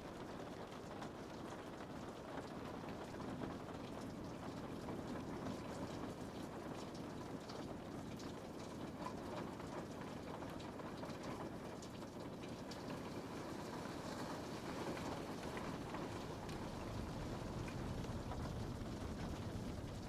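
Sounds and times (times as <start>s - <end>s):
rain on a window: 0.0s - 20.0s.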